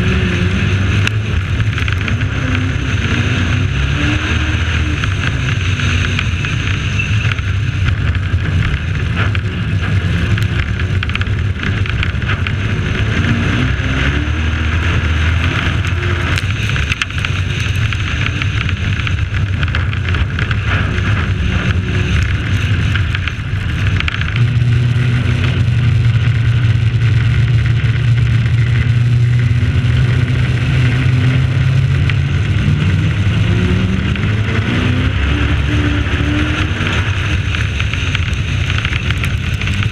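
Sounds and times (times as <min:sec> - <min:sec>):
truck engine running hard: 0:00.0 - 0:39.9
wind: 0:00.0 - 0:39.9.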